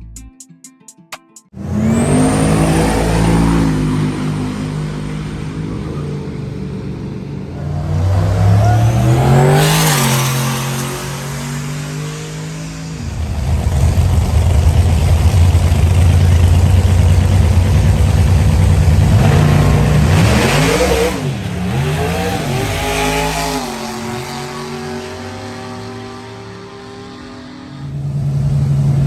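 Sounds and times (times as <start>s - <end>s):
vehicle engine revving: 1.6s - 29.0s.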